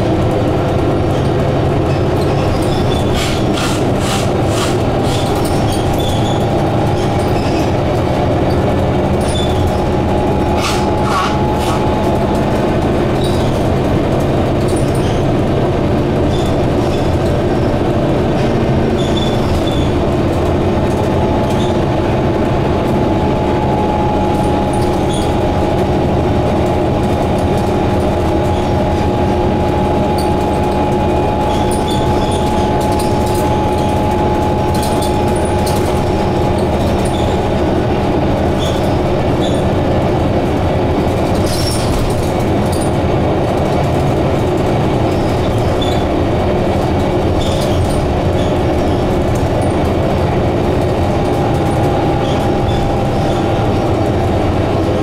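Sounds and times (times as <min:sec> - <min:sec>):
bus engine drone: 0:00.0 - 0:55.0
rattling ticks from bus body: 0:00.0 - 0:55.0
road noise: 0:00.0 - 0:55.0.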